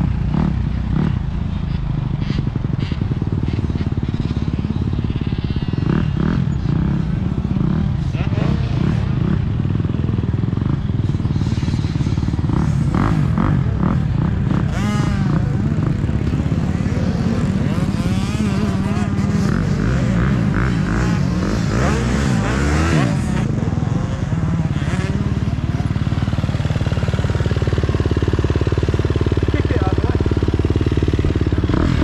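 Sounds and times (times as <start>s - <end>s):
motocross bike engine revving: 0.0s - 32.0s.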